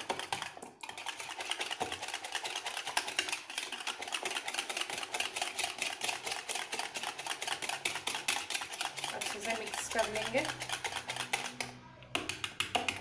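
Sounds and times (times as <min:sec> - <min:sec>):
eggs whisked in plastic bowl: 0:00.0 - 0:13.0.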